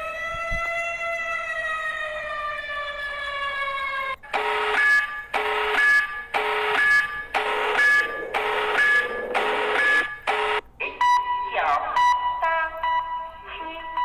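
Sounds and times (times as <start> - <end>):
pulsing alarm: 0.0 - 14.0
wailing emergency siren: 0.0 - 14.0.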